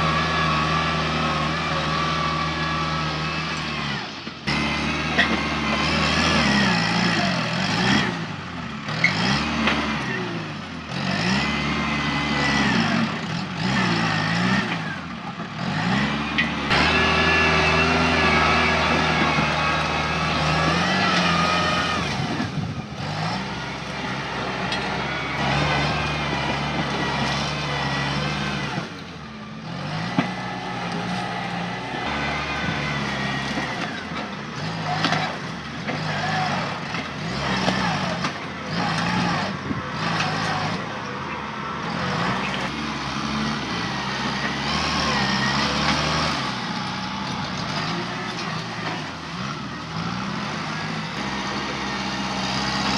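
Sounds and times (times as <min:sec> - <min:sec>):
tractor diesel engine working: 0:00.0 - 0:52.9.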